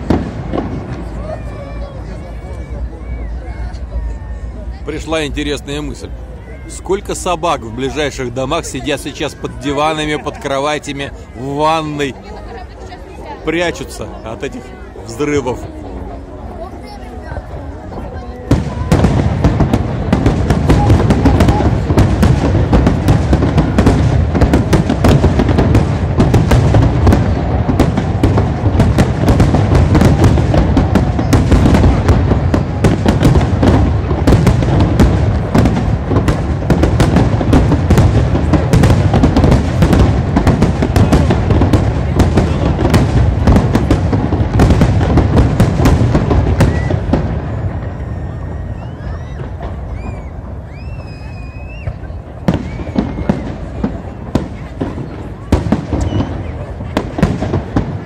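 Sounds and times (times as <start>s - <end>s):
fireworks bursts and crackling: 0.0s - 58.0s.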